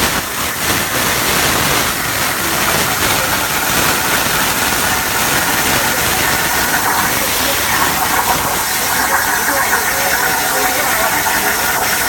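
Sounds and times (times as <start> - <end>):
plasma torch cutting metal: 0.0 - 12.0.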